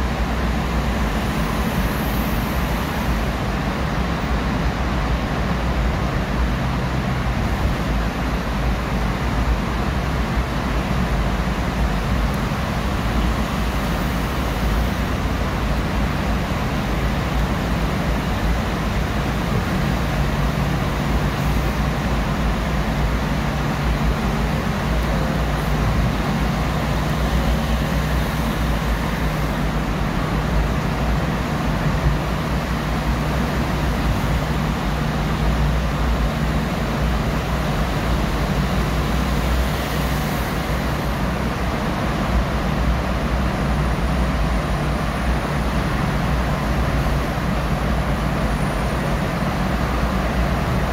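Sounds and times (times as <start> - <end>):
car road noise in tunnel: 0.0 - 50.9.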